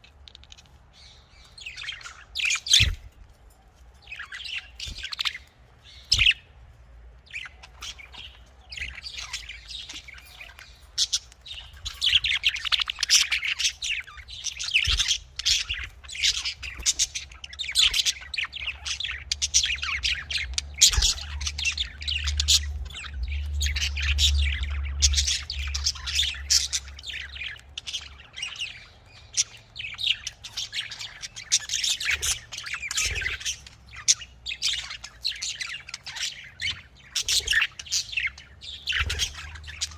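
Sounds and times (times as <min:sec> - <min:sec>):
budgerigars chattering: 0:00.0 - 0:03.1, 0:04.0 - 0:06.6, 0:07.3 - 0:39.9.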